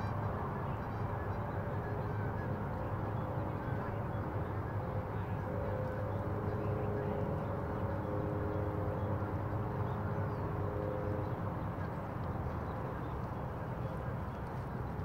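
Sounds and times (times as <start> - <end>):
low outdoor drone: 0.0 - 15.0.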